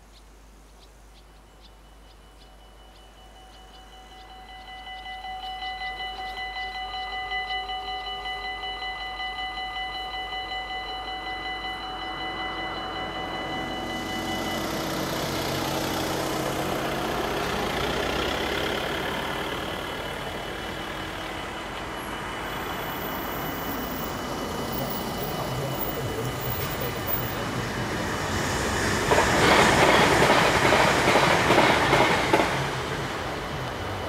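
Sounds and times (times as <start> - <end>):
train passing: 1.3 - 34.0
level-crossing bells ringing: 1.4 - 34.0.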